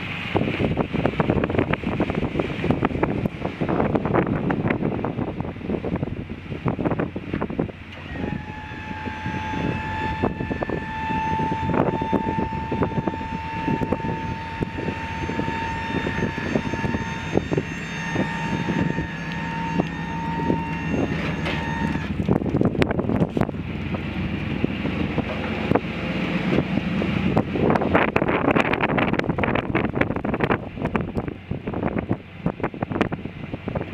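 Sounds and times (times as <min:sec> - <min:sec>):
high-pitched whine: 0:00.0 - 0:33.9
truck engine running: 0:00.0 - 0:33.9
wind buffeting microphone: 0:00.0 - 0:33.9.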